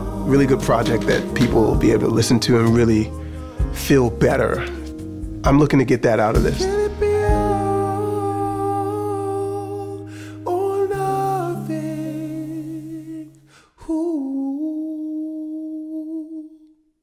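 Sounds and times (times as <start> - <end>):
hummed vocal chords: 0.0 - 5.5, 6.4 - 16.7.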